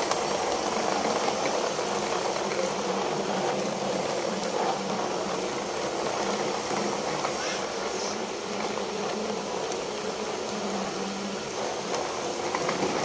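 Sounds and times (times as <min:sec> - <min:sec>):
toy truck wheels rolling on concrete: 0:00.0 - 0:13.0.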